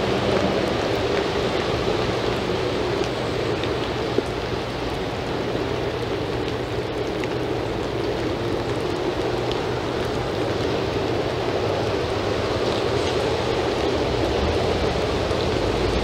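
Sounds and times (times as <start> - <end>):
rain on wet paving: 0.0 - 16.0.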